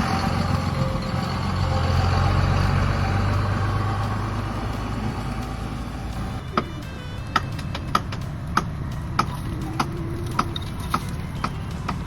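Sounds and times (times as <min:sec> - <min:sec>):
truck engine driving off: 0:00.0 - 0:12.0.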